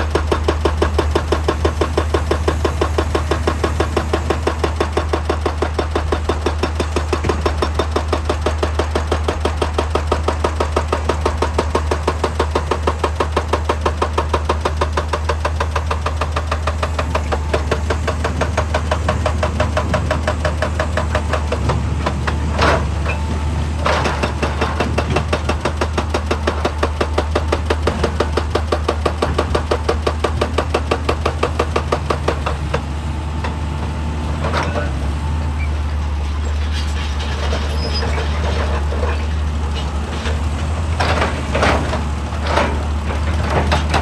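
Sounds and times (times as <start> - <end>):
hydraulic breaker pounding rock: 0.0 - 33.6, 36.3 - 44.0
engine hum: 0.0 - 44.0.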